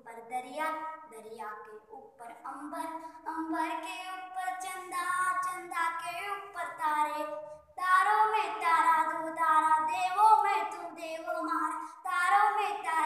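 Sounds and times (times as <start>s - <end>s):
boy singing: 0.0s - 13.0s.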